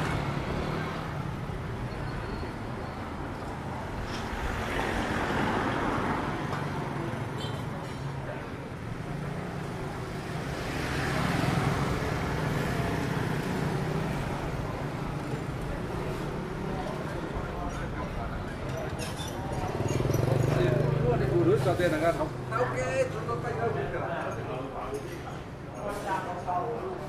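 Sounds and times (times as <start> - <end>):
vehicles passing close by: 0.0 - 27.0.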